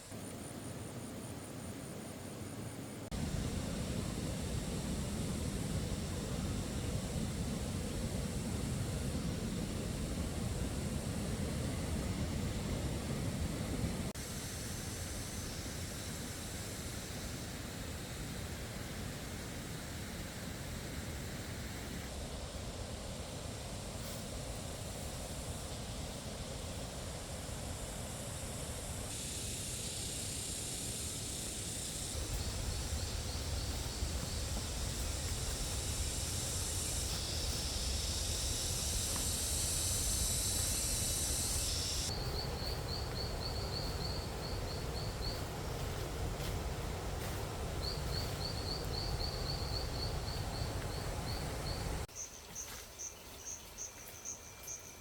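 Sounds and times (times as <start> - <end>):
cricket chirping: 0.0 - 55.0
rain hissing: 3.1 - 52.1.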